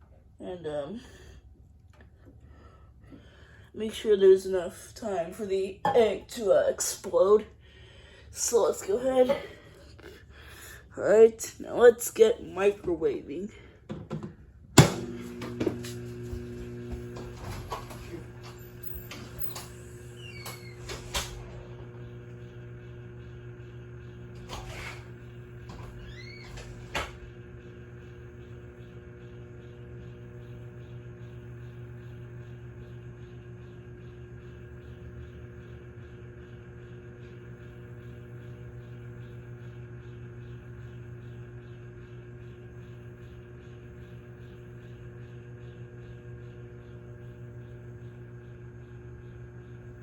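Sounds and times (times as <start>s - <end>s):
microwave oven humming: 0.1s - 50.0s.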